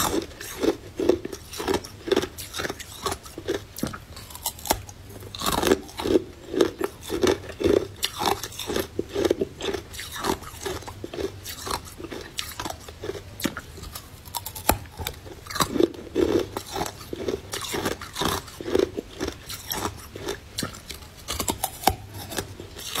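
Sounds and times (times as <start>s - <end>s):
crunching and chewing ice: 0.0s - 23.0s.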